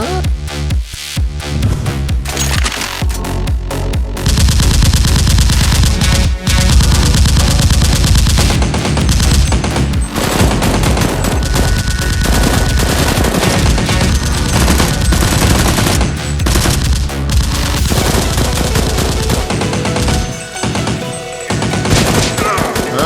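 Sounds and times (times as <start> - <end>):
background music: 0.0 - 23.0
rapid automatic gunfire: 4.2 - 23.0.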